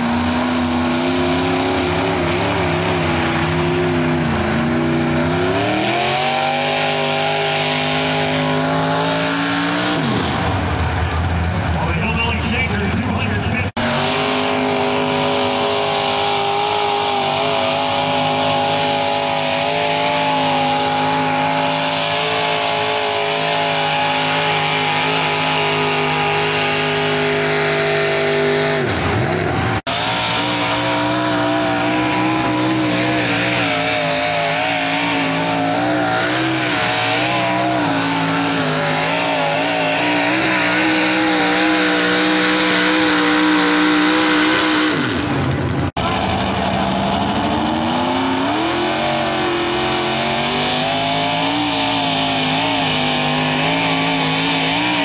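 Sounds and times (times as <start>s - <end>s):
tractor engines revving high: 0.0s - 55.0s.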